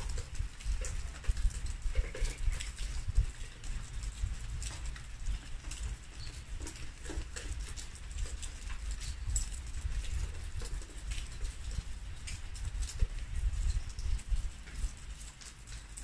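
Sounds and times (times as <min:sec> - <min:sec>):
light rain and dripping water: 0:00.0 - 0:16.0
wind rumble on microphone: 0:00.0 - 0:16.0.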